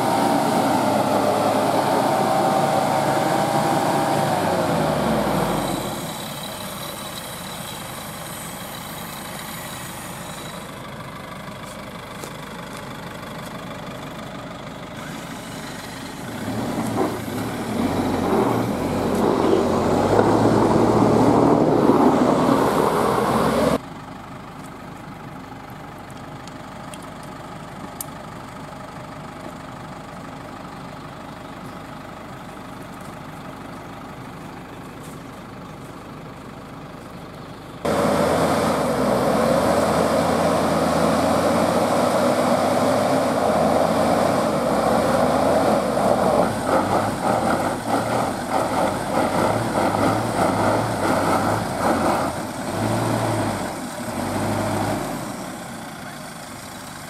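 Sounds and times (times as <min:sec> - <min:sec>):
van engine idling: 0:00.0 - 0:39.4, 0:45.3 - 0:57.0.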